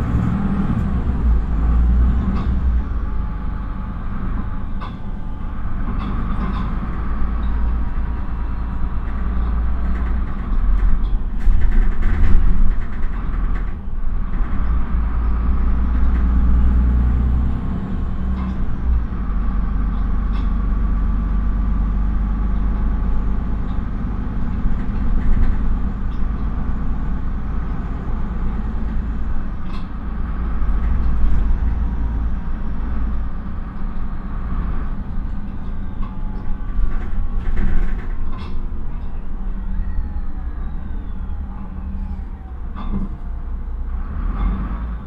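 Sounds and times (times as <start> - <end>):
bus diesel engine drone: 0.0 - 45.0
road rumble: 0.0 - 45.0.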